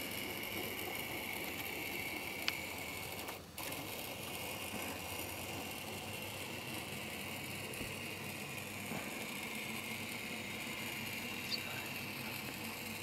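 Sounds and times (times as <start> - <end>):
model train motor running: 0.0 - 13.0
wheels rolling over track: 0.0 - 13.0.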